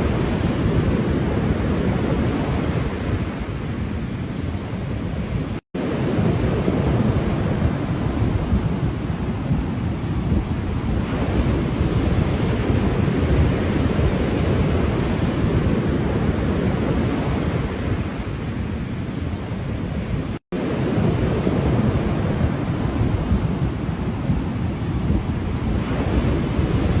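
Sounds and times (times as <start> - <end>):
ocean waves rushing: 0.0 - 27.0.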